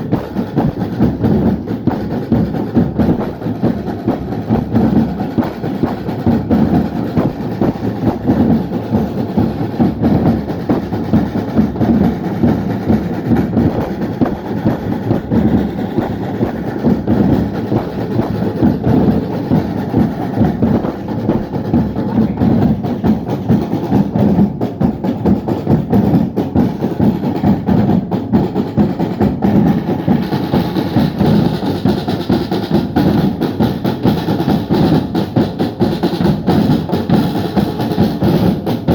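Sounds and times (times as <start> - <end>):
drum band playing: 0.0 - 38.9.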